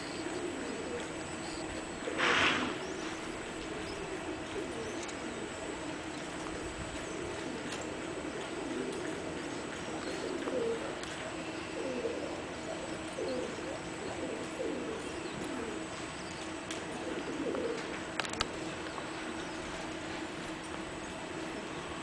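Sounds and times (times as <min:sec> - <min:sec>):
pigeons cooing: 0:00.0 - 0:22.0
steady low hum: 0:00.0 - 0:22.0.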